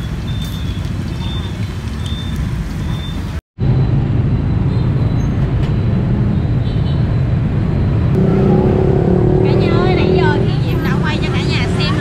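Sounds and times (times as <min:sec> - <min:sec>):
motorbikes: 0:00.0 - 0:12.0
street traffic rumble: 0:00.0 - 0:12.0.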